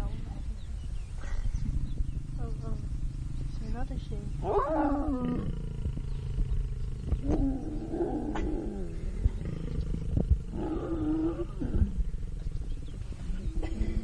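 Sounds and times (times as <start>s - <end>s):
low rumble: 0.0s - 14.0s
lions growling: 1.2s - 14.0s.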